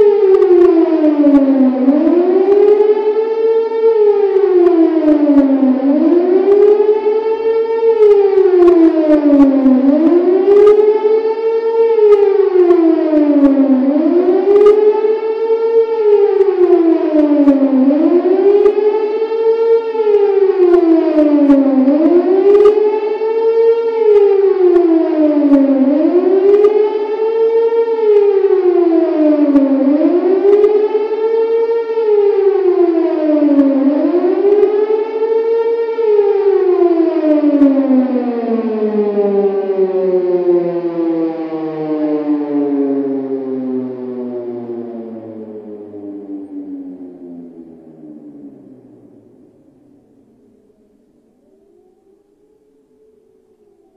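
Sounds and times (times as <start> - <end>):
warning siren wailing: 0.0 - 53.9.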